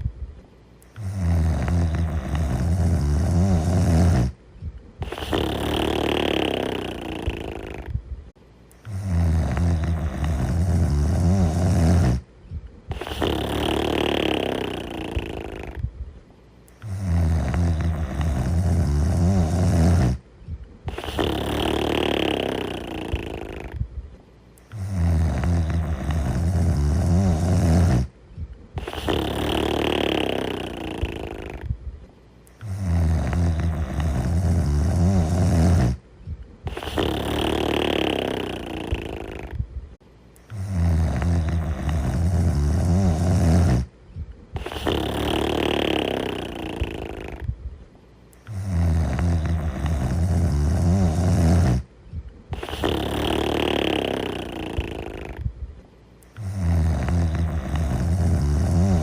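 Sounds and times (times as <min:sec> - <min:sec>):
loud rasping snoring: 0:00.9 - 0:04.4, 0:05.0 - 0:08.0, 0:08.8 - 0:12.3, 0:12.9 - 0:15.8, 0:16.7 - 0:23.8, 0:24.6 - 0:28.2, 0:28.8 - 0:31.8, 0:32.5 - 0:36.0, 0:36.6 - 0:39.6, 0:40.4 - 0:47.5, 0:48.3 - 0:51.9, 0:52.5 - 0:55.5, 0:56.2 - 0:59.0.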